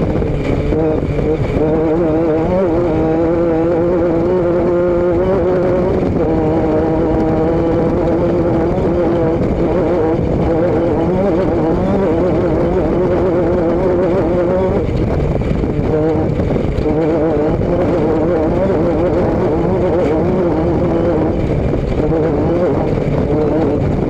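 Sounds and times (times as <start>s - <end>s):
continuous rushing noise: 0.0s - 24.0s
vehicle engine droning: 0.0s - 24.0s.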